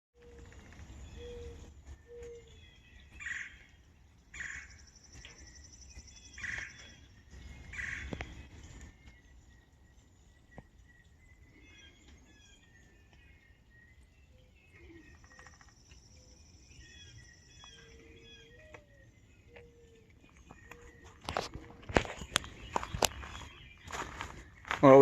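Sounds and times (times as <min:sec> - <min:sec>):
birds chirping and whistling: 0:00.2 - 0:25.0.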